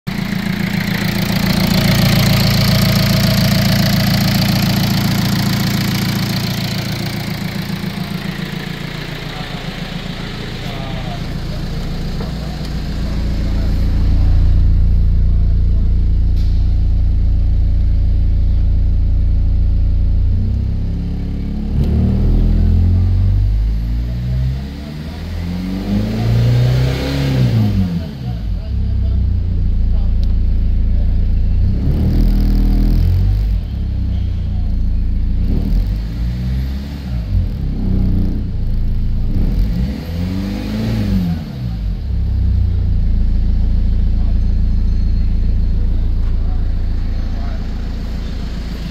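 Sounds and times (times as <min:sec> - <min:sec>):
diesel engine idling: 0:00.1 - 0:25.7, 0:27.9 - 0:36.4, 0:41.4 - 0:48.9.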